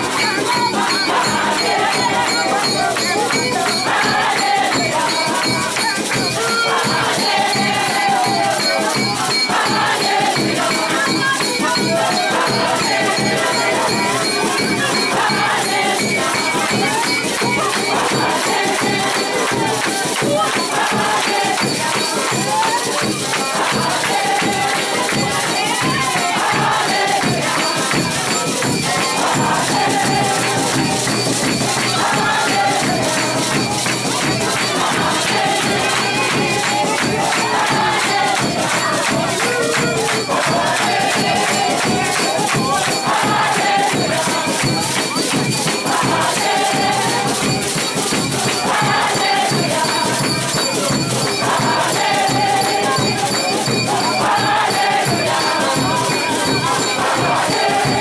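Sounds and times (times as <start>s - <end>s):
congregation singing and chanting: 0.0s - 58.0s
hand percussion rattling: 0.0s - 58.0s.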